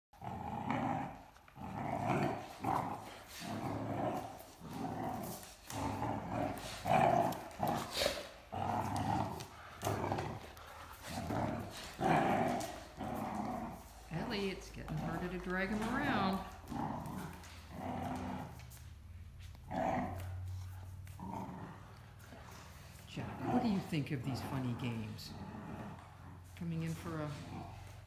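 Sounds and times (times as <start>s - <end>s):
dogs growling in play: 0.2s - 28.0s.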